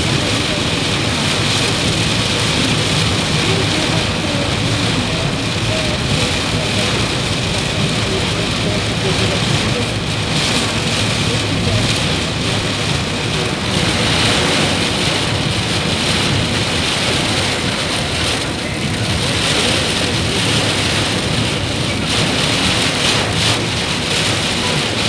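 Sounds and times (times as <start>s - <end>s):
engine and road noise rumble: 0.0s - 25.0s
heavy rain on car roof: 0.0s - 25.0s.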